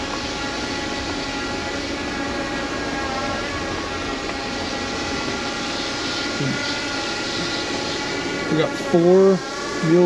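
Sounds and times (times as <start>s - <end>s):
drone propellers whining: 0.0s - 10.0s
rushing hiss: 0.0s - 10.0s.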